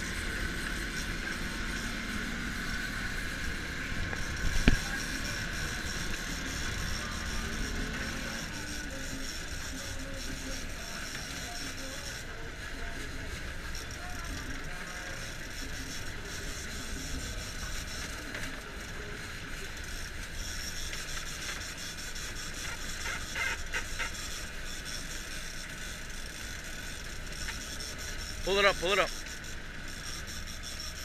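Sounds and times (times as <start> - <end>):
boat engine running: 0.0 - 31.0
fishing reel winding: 0.0 - 31.0
wind: 0.0 - 31.0.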